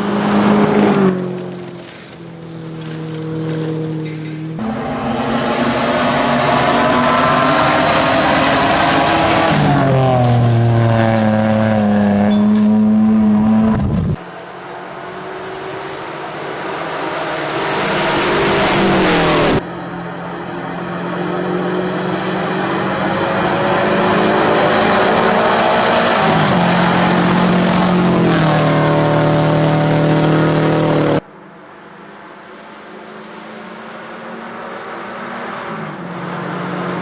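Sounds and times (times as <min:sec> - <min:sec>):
rally car engines at full throttle: 0:00.0 - 0:37.0.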